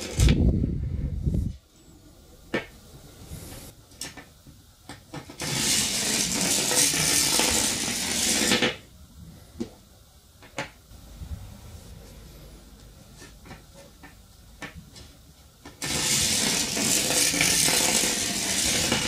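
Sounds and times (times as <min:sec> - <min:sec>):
loud steady hiss: 0:00.0 - 0:19.0.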